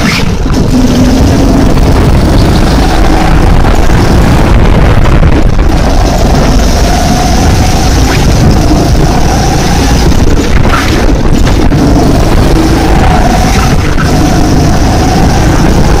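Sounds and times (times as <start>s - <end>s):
kart engine running: 0.0s - 16.0s
wind rumble: 0.0s - 16.0s.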